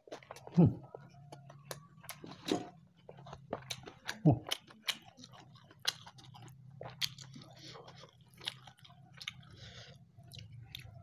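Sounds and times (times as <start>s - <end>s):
close chewing mouth sounds: 0.0s - 11.0s.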